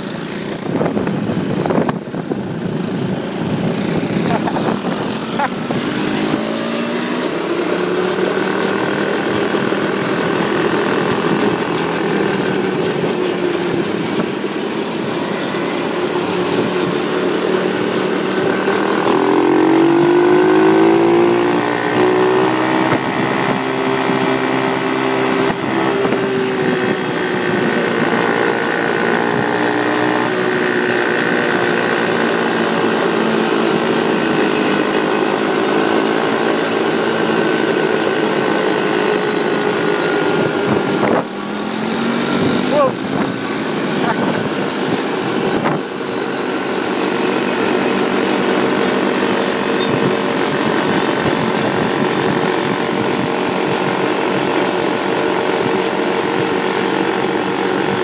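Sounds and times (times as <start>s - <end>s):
small atv engine running: 0.0s - 58.0s.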